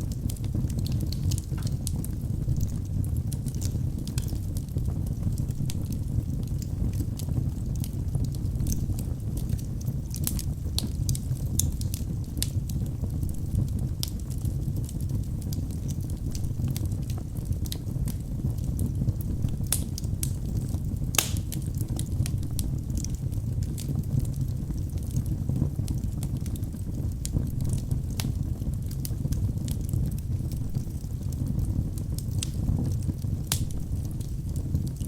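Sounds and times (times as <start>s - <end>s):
fire low rumble: 0.0s - 35.0s
wood fire crackling and popping: 0.0s - 35.0s.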